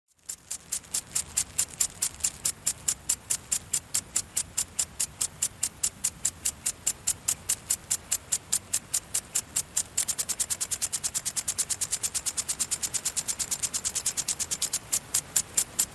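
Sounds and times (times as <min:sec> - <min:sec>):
garden sprinkler hissing spurts: 0:00.1 - 0:15.9.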